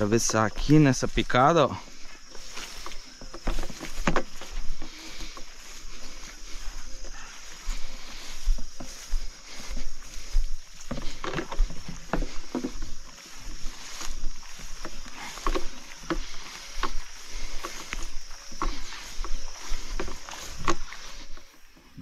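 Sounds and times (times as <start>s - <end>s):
footsteps wading through water: 0.0s - 21.8s.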